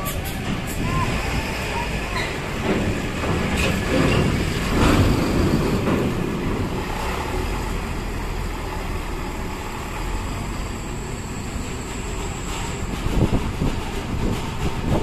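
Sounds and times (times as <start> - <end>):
bus engines rumbling: 0.0 - 15.0
bus passing: 0.0 - 15.0.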